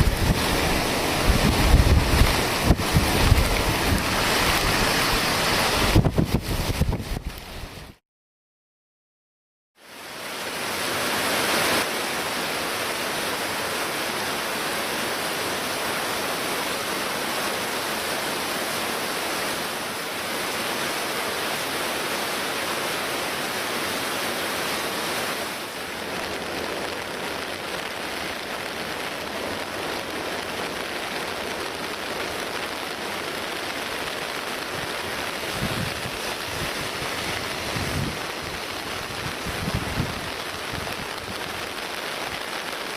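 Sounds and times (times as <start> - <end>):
river rushing: 0.0 - 7.6, 9.8 - 42.9
rain: 0.0 - 8.0, 9.8 - 42.9.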